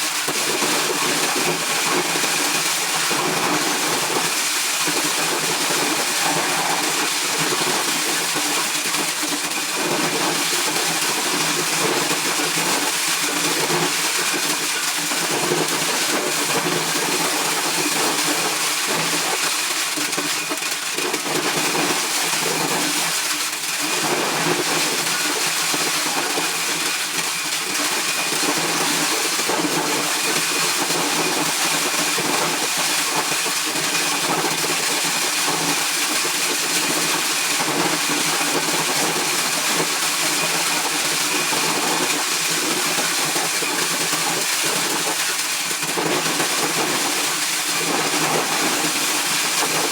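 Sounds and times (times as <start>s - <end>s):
corn shelling machine running: 0.0s - 49.9s.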